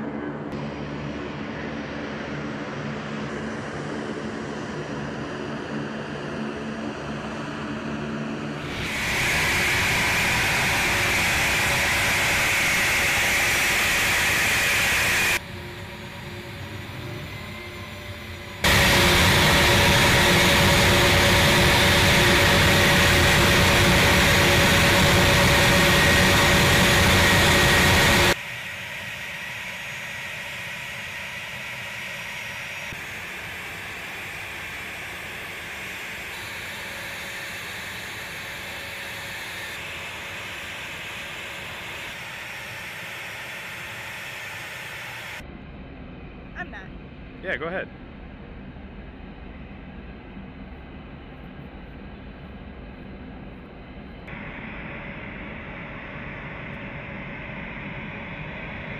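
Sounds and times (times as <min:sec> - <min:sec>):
jet engines running with high whine: 0:00.0 - 0:58.9.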